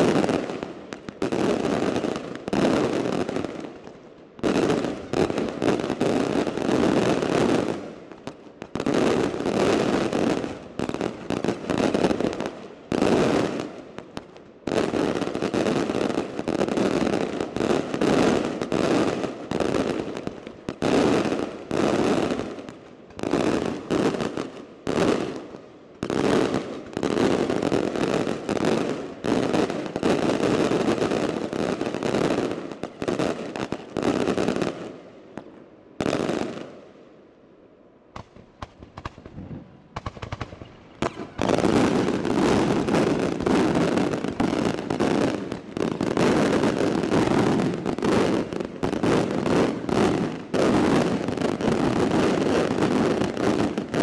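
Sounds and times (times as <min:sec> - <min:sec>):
fireworks bursting: 0:00.0 - 0:37.0, 0:38.1 - 0:54.0.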